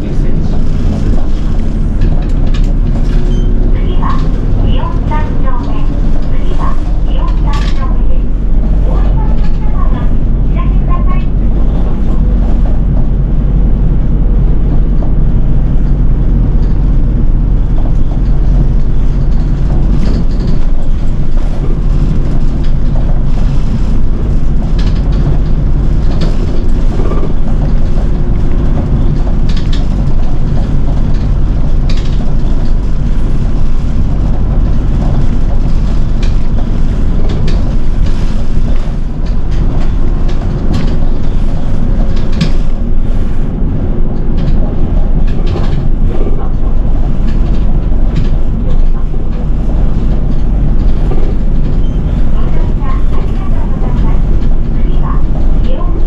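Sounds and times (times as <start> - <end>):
bus engine rumble: 0.0 - 56.0
road noise: 0.0 - 56.0.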